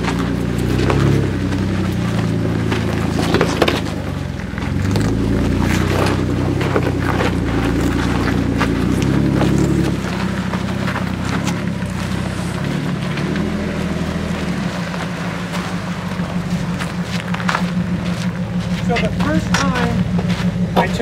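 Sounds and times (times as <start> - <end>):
engine running at low speed: 0.0 - 21.0
rock cracking under tyres: 0.0 - 21.0.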